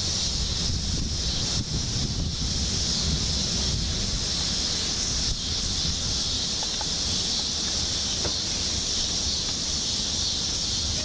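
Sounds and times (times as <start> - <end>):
storm winds blowing: 0.0 - 11.0.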